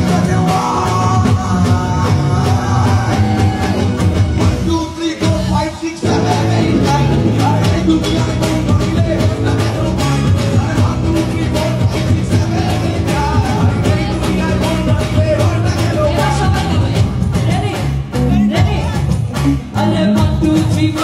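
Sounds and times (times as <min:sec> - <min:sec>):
electric bass: 0:00.0 - 0:21.0
live band music: 0:00.0 - 0:21.0
person singing: 0:00.0 - 0:21.0.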